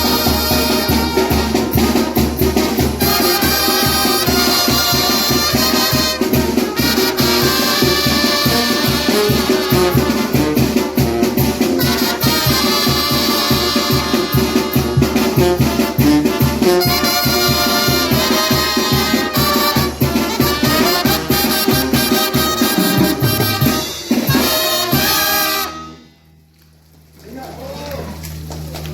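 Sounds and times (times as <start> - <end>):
latin dance music: 0.0 - 25.7
percussion beat: 0.0 - 25.8
trumpet: 0.0 - 26.6.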